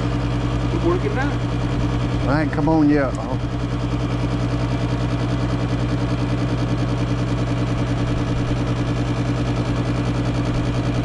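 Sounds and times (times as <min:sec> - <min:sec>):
furnace motor humming: 0:00.0 - 0:11.0.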